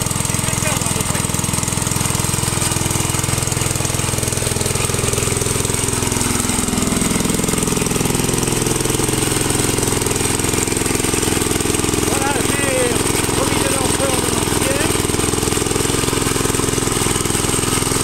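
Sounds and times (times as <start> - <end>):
tiller engine running: 0.0 - 18.0.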